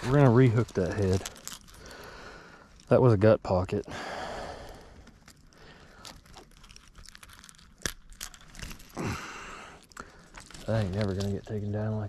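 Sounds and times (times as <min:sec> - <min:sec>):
small crinkles and clicks: 0:00.0 - 0:03.9, 0:04.5 - 0:12.0.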